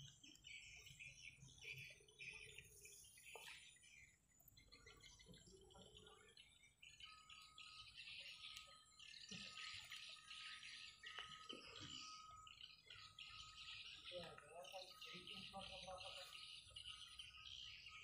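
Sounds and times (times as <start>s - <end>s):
small birds chirping: 0.0s - 18.0s
thin steady high tone: 0.0s - 18.0s.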